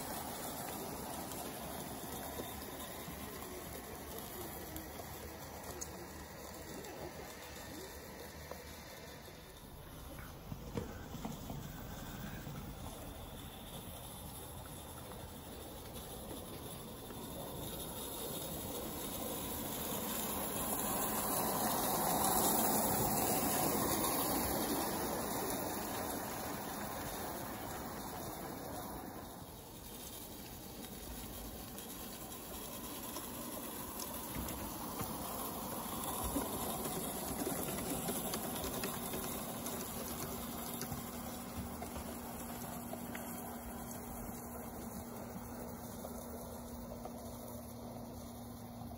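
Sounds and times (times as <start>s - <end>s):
model steam locomotive running: 0.0s - 48.9s.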